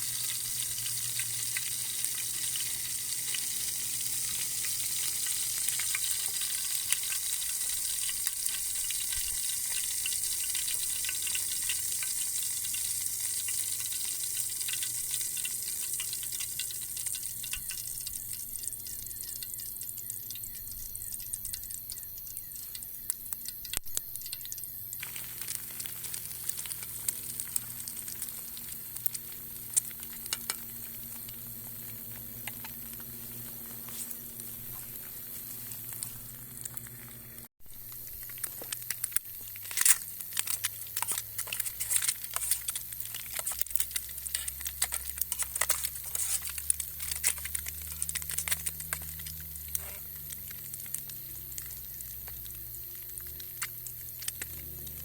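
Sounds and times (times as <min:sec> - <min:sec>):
rain hiss: 0:00.0 - 0:21.0, 0:24.2 - 0:55.0
water drips and ticks: 0:00.0 - 0:55.0.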